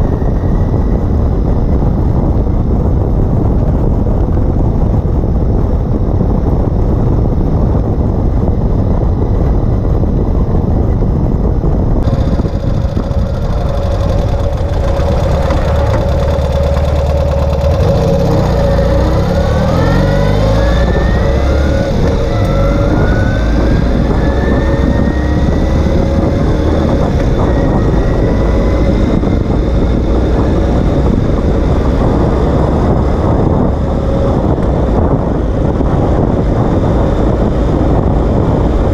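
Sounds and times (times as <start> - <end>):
motorcycle engine running: 0.0 - 38.9
road and wind rush: 0.0 - 38.9.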